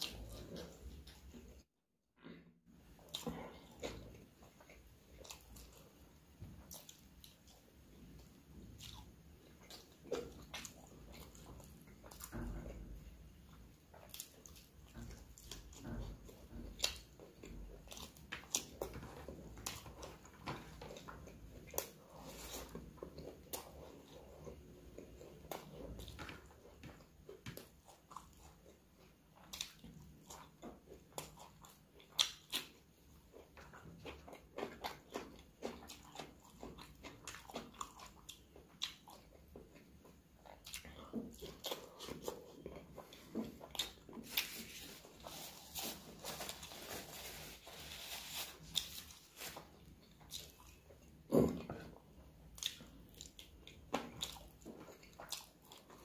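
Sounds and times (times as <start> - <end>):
wet chewing and smacking: 2.8 - 47.0, 48.1 - 56.0.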